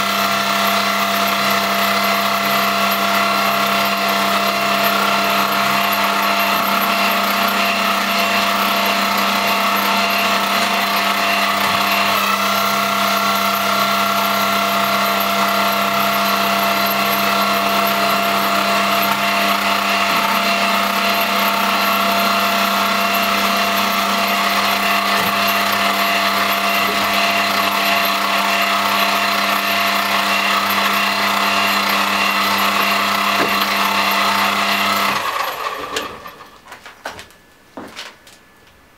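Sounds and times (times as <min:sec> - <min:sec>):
lathe motor humming: 0:00.0 - 0:36.6
mechanical whir: 0:00.0 - 0:36.6.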